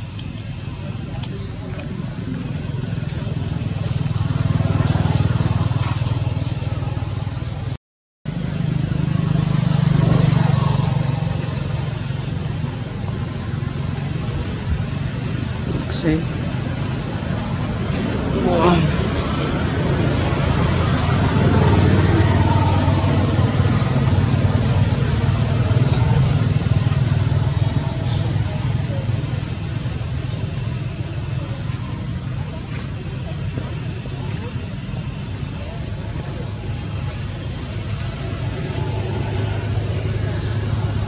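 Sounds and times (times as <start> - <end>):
engine running with pulsing hum: 0.0 - 41.0.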